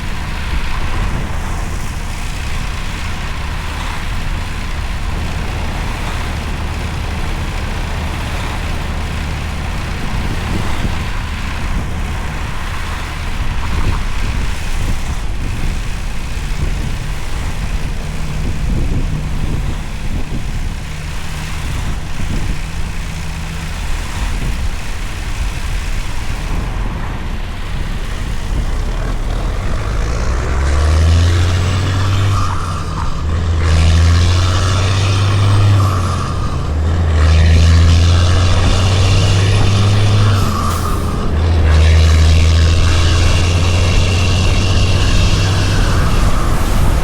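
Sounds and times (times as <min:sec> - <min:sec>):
heavy diesel truck engine: 0:00.0 - 0:47.0.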